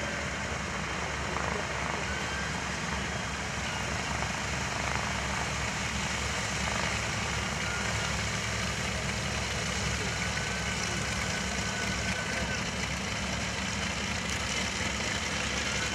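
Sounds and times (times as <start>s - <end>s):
propeller aircraft engines running: 0.0s - 15.9s.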